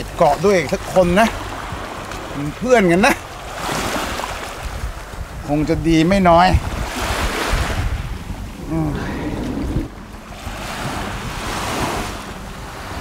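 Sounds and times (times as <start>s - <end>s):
sea waves washing onto beach: 0.0s - 13.0s
wind buffeting microphone: 0.0s - 13.0s.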